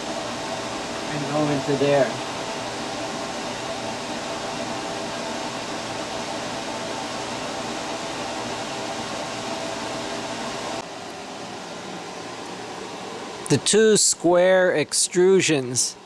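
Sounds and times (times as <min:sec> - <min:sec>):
fan-like whir: 0:00.0 - 0:16.0.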